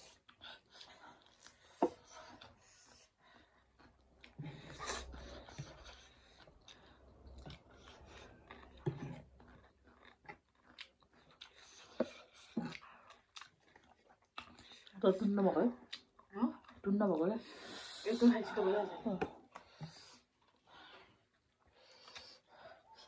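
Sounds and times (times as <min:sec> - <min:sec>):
person chewing noodles: 0:00.0 - 0:18.0, 0:19.4 - 0:23.0.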